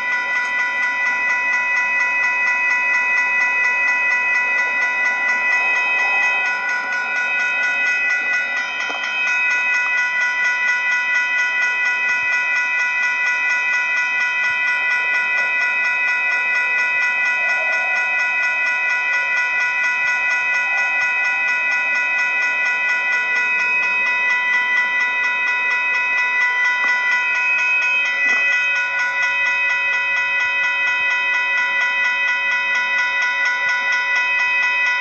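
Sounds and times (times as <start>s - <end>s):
railroad crossing bell ringing: 0.0s - 35.0s.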